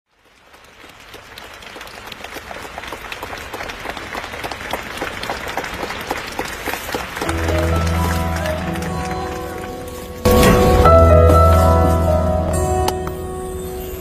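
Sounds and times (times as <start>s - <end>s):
audience clapping: 0.1s - 13.2s.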